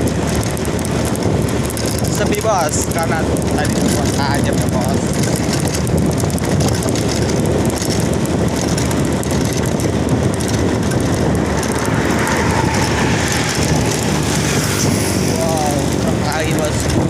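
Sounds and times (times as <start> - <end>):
heavy vehicle engine and tyre rumble: 0.0 - 17.0.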